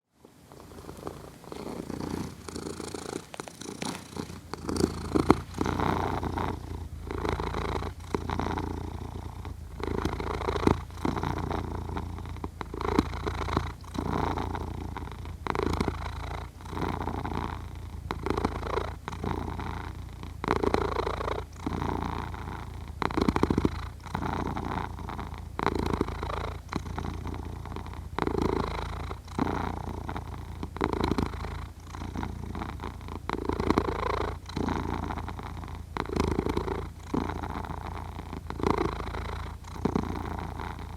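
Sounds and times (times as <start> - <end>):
cat purring: 0.1 - 40.9.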